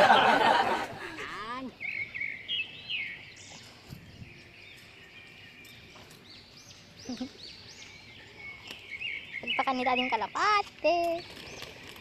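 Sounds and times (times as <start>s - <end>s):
small birds chirping: 1.0s - 12.0s.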